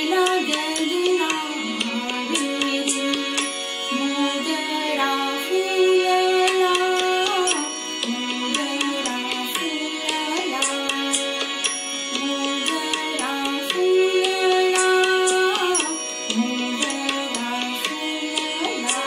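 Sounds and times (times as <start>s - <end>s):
tabla drumming: 0.0s - 4.1s, 6.4s - 19.0s
woman singing: 0.0s - 19.0s.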